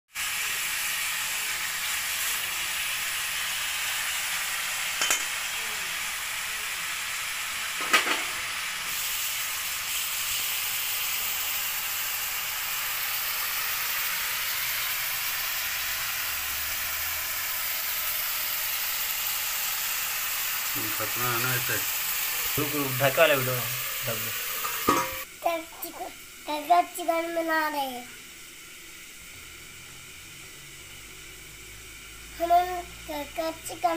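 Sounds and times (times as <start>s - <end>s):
chicken sizzling in oil: 0.1s - 33.9s.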